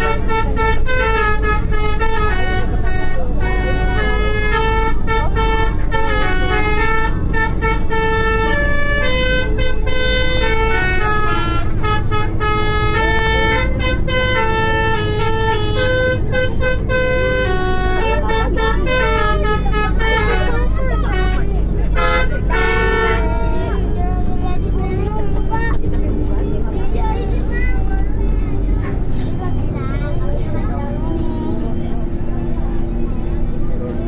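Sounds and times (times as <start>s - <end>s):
bus rumbling: 0.0s - 34.0s.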